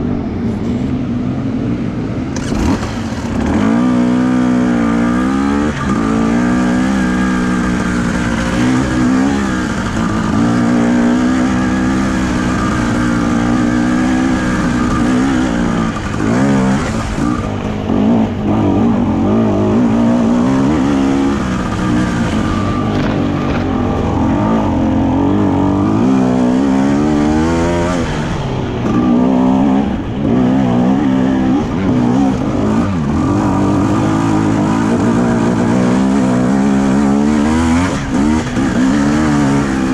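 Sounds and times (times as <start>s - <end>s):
dirt bike engine revving: 2.2s - 39.9s.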